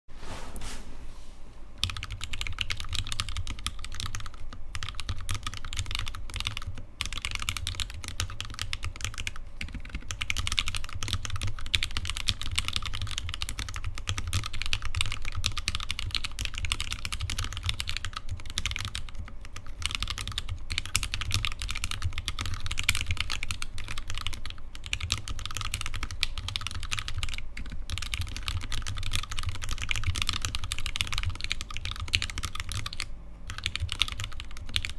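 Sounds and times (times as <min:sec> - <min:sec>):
fast mechanical keyboard typing: 0:01.8 - 0:34.9.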